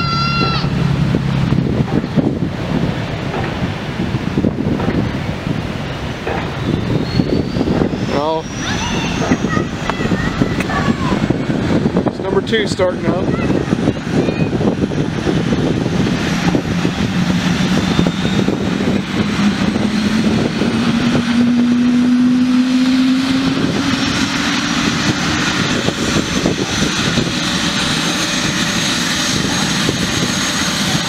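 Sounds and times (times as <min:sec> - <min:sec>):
engine and rotor rush: 0:00.0 - 0:31.0
helicopter turbine spooling up: 0:00.0 - 0:31.0
high whine climbing in pitch: 0:00.0 - 0:31.0.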